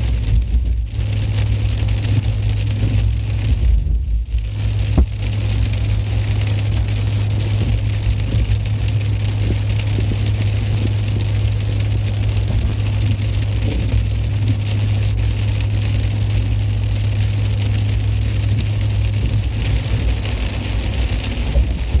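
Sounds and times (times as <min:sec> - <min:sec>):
low hum: 0:00.0 - 0:22.0
rain falling: 0:00.0 - 0:22.0.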